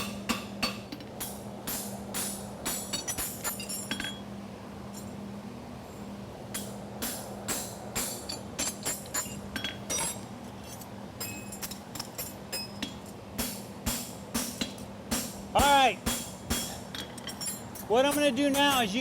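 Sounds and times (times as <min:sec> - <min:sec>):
hammer striking horseshoe on anvil: 0:00.0 - 0:04.2, 0:06.5 - 0:10.2, 0:11.2 - 0:19.0.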